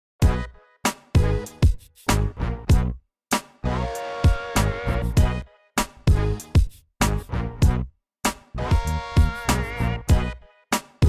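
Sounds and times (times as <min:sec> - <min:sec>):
music with punchy drum beat: 0:00.2 - 0:11.0.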